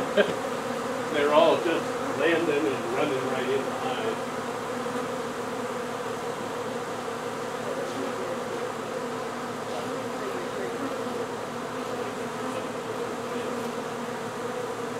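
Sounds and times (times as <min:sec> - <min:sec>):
bees buzzing: 0:00.0 - 0:14.9.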